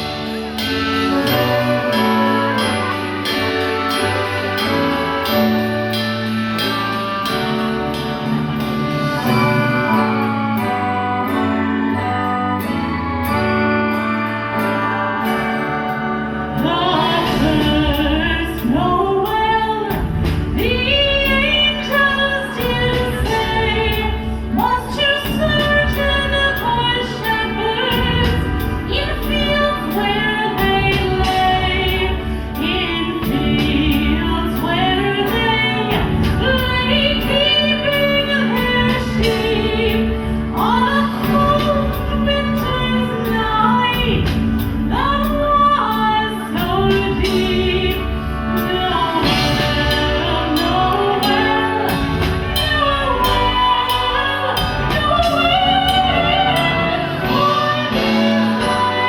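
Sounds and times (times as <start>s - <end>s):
instrumental backing music: 0.0s - 59.0s
woman singing: 0.0s - 59.0s.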